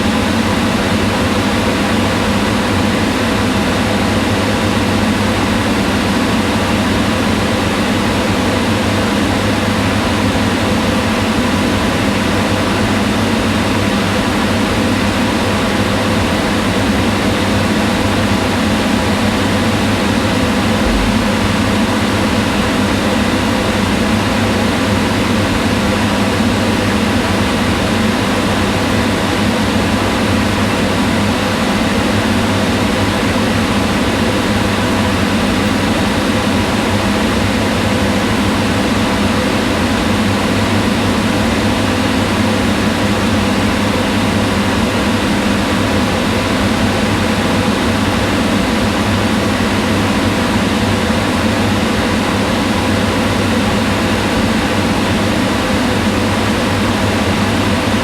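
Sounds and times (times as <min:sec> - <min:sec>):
range hood fan running: 0:00.0 - 0:58.0.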